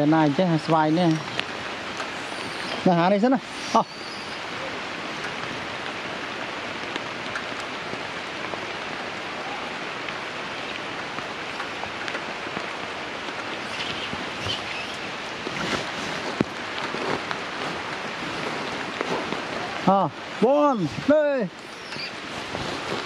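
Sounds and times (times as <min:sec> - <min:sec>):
rain on stone and leaves: 0:00.0 - 0:23.0.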